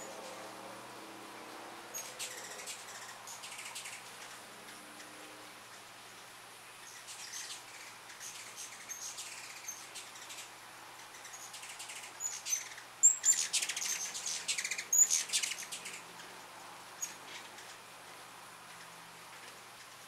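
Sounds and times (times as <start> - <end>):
birds chattering and chipping: 1.4 - 18.0.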